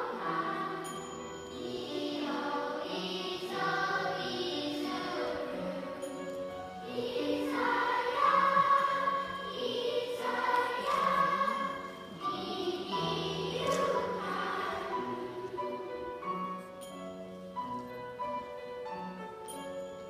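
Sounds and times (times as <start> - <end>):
children's choir singing: 0.0 - 16.7.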